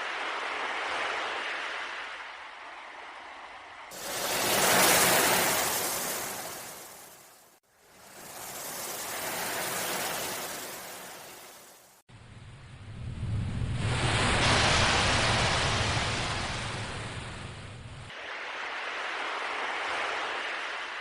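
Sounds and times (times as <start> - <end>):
ocean waves washing in: 0.0 - 21.0.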